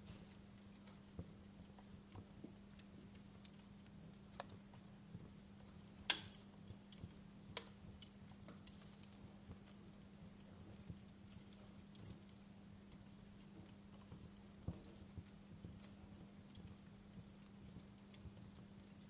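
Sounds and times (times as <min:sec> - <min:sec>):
faint low hum: 0:00.0 - 0:19.0
wood fire crackling: 0:00.0 - 0:19.0.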